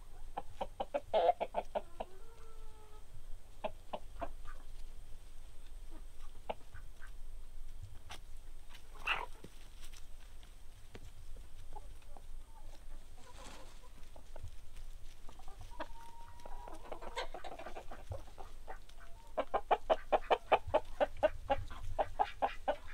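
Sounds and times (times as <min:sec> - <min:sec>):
chickens clucking: 0:00.0 - 0:22.9.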